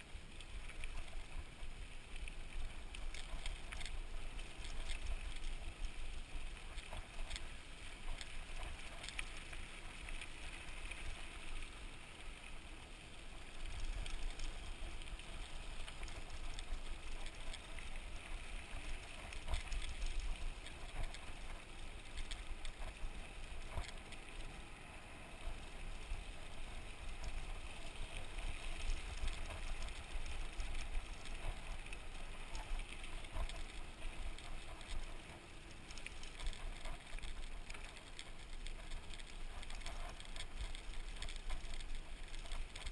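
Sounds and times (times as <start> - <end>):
bike clicks and rattles: 0.0 - 24.6, 25.2 - 42.9.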